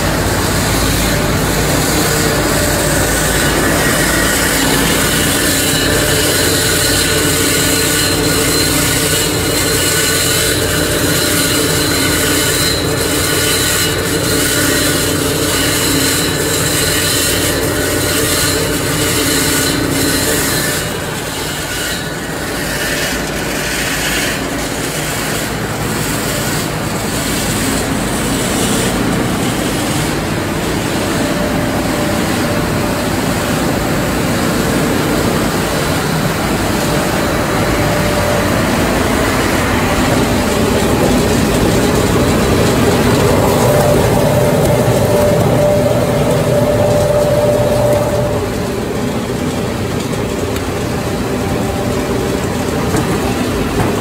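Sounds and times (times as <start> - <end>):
constant motor tones: 0.0 - 54.0
industrial machine noise: 0.0 - 54.0.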